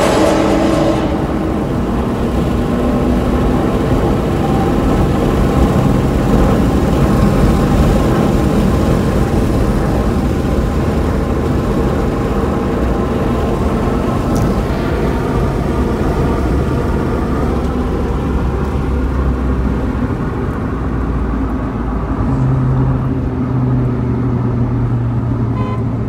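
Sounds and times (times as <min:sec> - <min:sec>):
car engine drone: 0:00.0 - 0:26.0
road noise inside car: 0:00.0 - 0:26.0.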